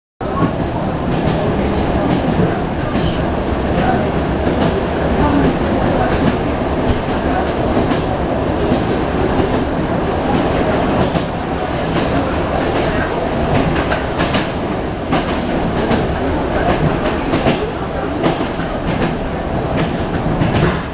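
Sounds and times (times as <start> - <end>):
train carriage rumble: 0.2 - 20.9
wheels clickety-clack on rails: 0.2 - 20.9.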